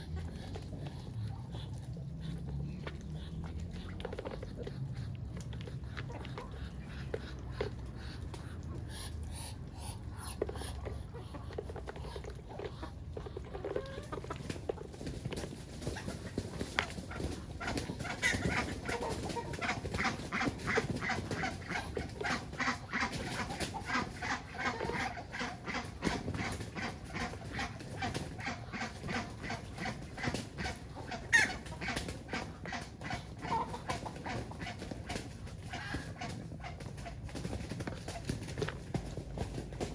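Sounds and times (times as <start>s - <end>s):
ducks and chickens calling: 0.0s - 39.9s.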